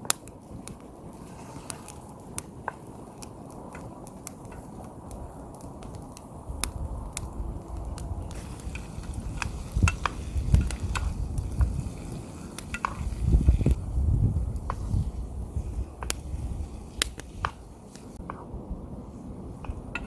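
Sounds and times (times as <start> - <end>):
crackles and pops: 0.0 - 18.5
low rumble of stove: 0.0 - 20.0.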